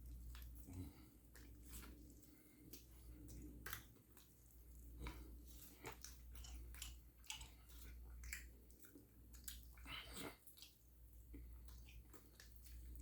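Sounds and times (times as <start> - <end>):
chewing food with mouth smacks: 0.0 - 13.0.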